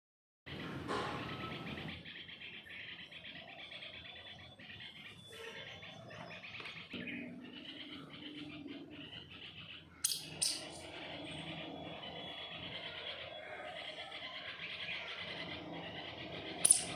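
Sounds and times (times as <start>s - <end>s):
squirrels chirping: 0.5s - 16.9s.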